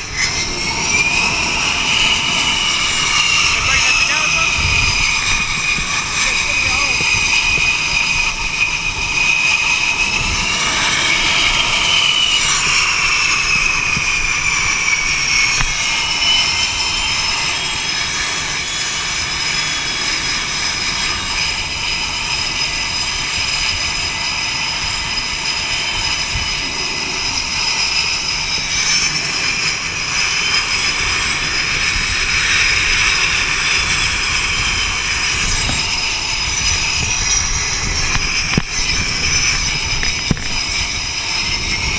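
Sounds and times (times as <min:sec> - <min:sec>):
constant low rumble: 0:00.0 - 0:41.9
jet engine high whine: 0:00.0 - 0:41.9.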